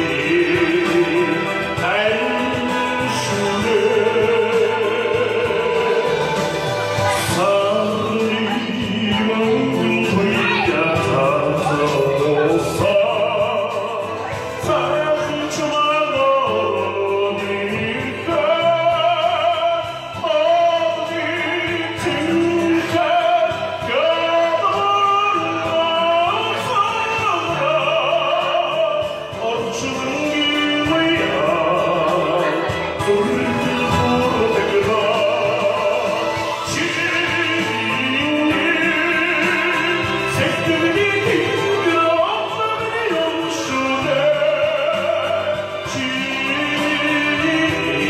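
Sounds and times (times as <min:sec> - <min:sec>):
person singing with vibrato: 0:00.0 - 0:48.0
steady musical accompaniment: 0:00.0 - 0:48.0.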